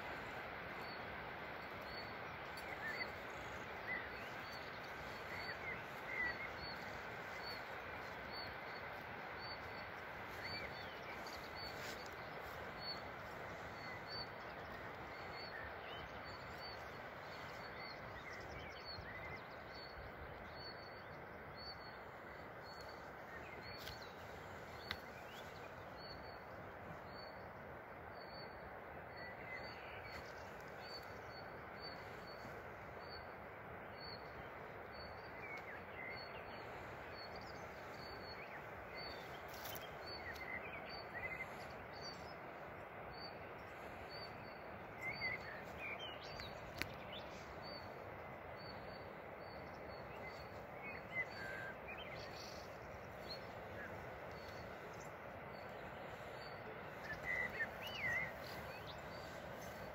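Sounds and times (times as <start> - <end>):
birds chirping: 0.0 - 59.9
steady rushing hiss: 0.0 - 59.9.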